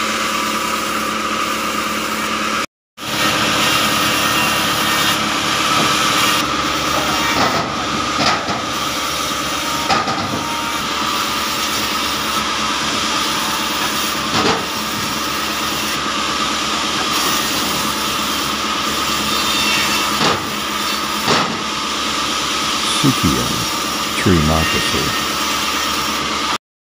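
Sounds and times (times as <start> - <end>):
sawmill machinery droning: 0.0 - 26.3.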